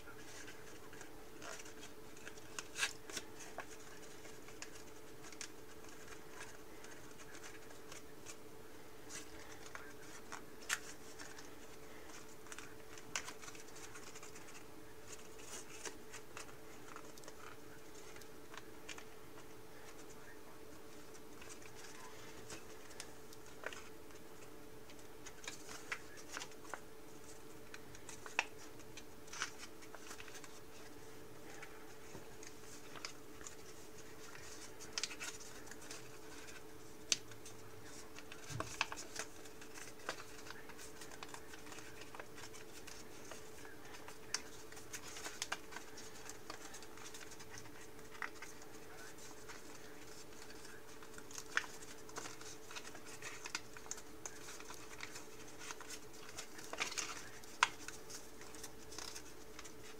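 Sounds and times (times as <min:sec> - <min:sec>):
faint steady hum: 0:00.0 - 0:59.9
paper crinkling while folded: 0:00.0 - 0:59.9.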